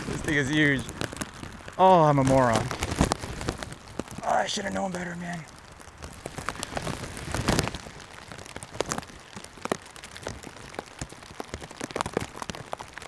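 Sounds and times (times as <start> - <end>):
rain drops tapping: 0.0 - 13.0.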